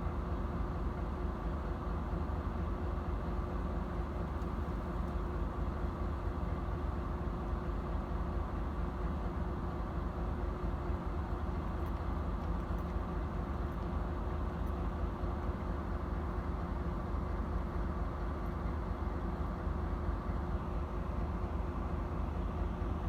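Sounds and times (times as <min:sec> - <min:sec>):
diesel locomotive idling: 0:00.0 - 0:23.0.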